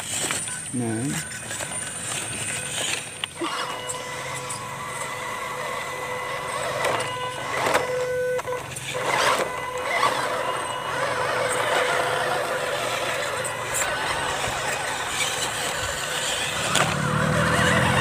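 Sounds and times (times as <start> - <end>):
toy car motor whine: 0.0 - 18.0.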